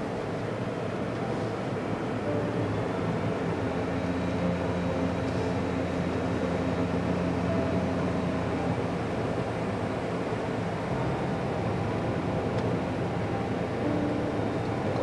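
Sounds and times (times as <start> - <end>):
car road and engine noise: 0.0 - 15.0
low steady hum: 0.0 - 15.0.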